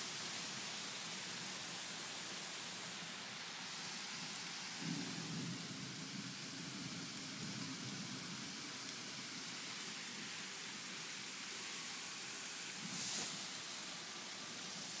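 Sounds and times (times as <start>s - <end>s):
rain and hail hissing: 0.0s - 15.0s.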